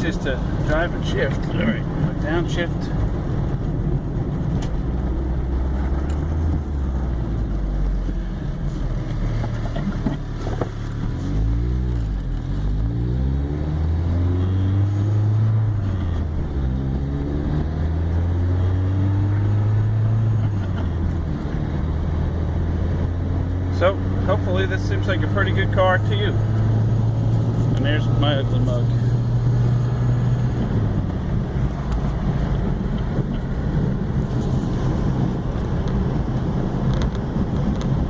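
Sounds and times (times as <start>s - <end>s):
car engine accelerating: 0.0s - 38.0s
road and wind noise: 0.0s - 38.0s.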